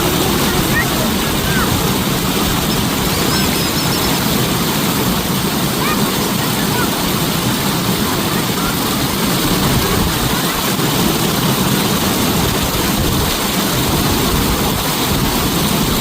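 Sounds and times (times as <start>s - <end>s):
falling water rushing: 0.0s - 16.0s.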